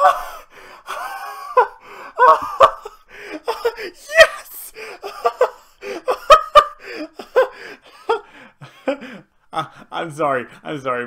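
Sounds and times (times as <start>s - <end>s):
man giggling and laughing: 0.0s - 9.9s.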